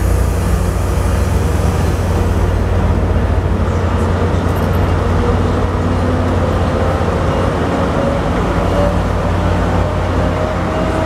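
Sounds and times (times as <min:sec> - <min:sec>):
locomotive engine drone: 0:00.0 - 0:11.0.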